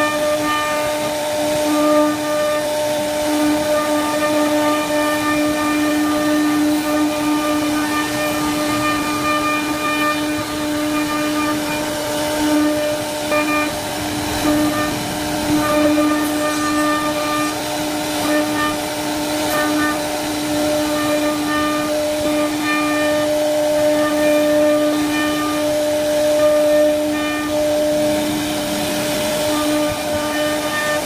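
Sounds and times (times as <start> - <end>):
hiss of bit cutting wood: 0.0 - 31.0
router spindle high whine: 0.0 - 31.0.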